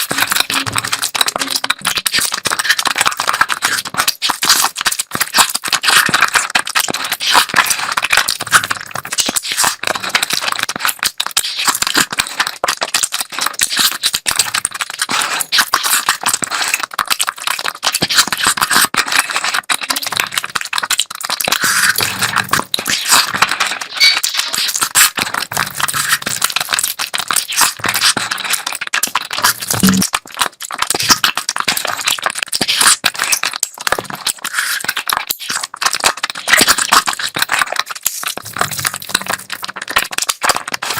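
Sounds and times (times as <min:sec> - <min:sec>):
wet chewing and lip smacks: 0:00.0 - 0:40.9.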